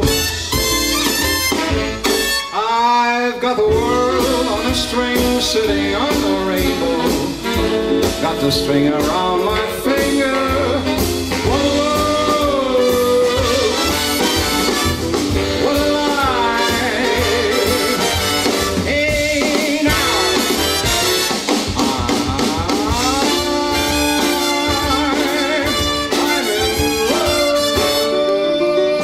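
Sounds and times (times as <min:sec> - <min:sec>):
swing big band playing: 0:00.0 - 0:29.0
man singing into a microphone: 0:02.5 - 0:07.4, 0:08.0 - 0:14.1, 0:15.5 - 0:20.8, 0:21.6 - 0:29.0.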